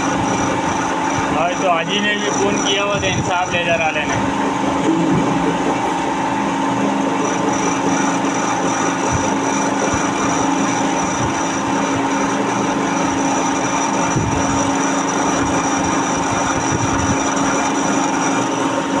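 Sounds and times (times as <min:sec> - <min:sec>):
lathe humming: 0:00.0 - 0:19.0.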